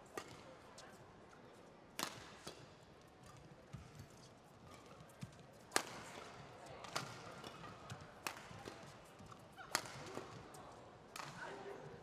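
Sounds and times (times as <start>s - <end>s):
rackets hitting shuttlecock: 0.1s - 0.6s, 1.9s - 11.9s.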